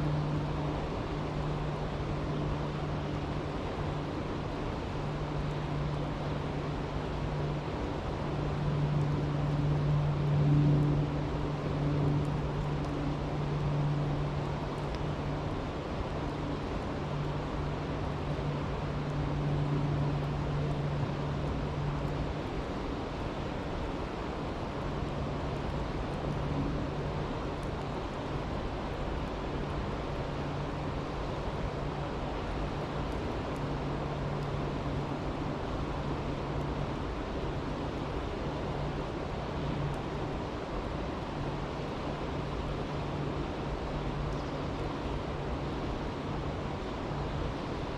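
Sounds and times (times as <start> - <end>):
low steady hum: 0.0 - 47.9
campfire crackling: 2.2 - 46.0.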